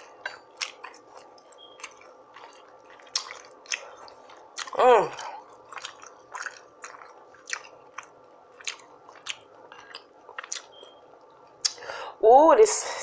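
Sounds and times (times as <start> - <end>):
close-miked chewing: 0.0 - 11.8.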